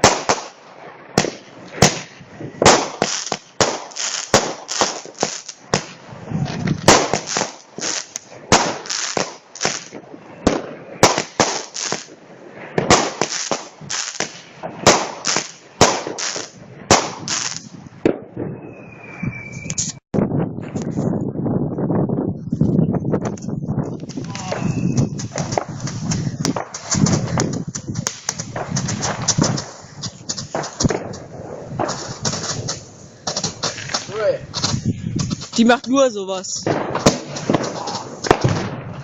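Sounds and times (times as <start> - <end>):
firework battery bangs: 0.0 - 19.0, 24.0 - 35.8, 36.6 - 39.0.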